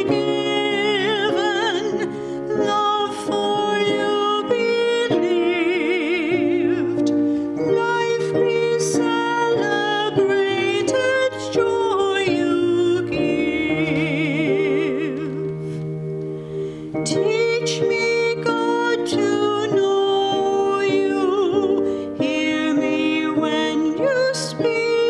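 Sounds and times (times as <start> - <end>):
instrumental accompaniment: 0.0 - 25.0
person singing with vibrato: 0.0 - 25.0.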